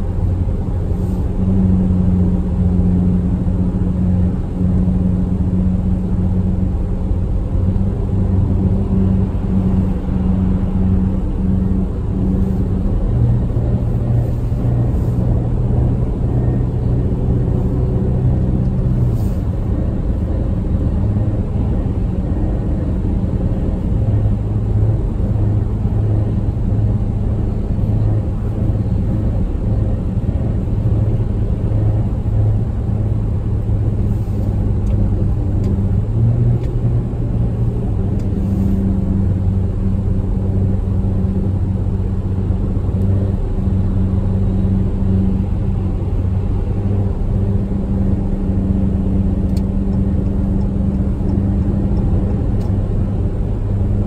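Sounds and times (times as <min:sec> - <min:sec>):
car engine drone in cabin: 0:00.0 - 0:54.0
tyre road rumble: 0:00.0 - 0:54.0.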